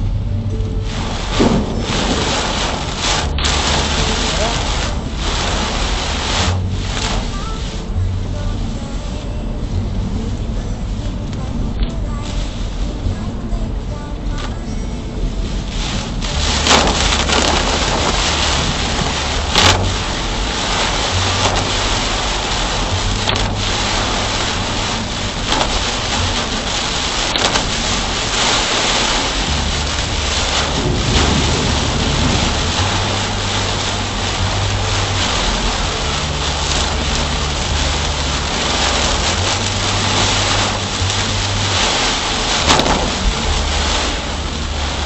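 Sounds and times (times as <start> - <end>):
low rumble: 0.0 - 45.0
rain on moving car: 0.0 - 45.0
wet road tyre noise: 0.0 - 45.0.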